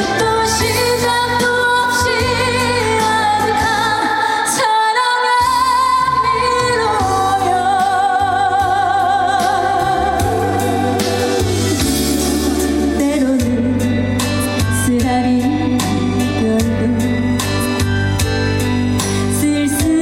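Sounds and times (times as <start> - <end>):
woman singing with vibrato: 0.0 - 17.6, 19.3 - 20.0
band backing track: 0.0 - 20.0.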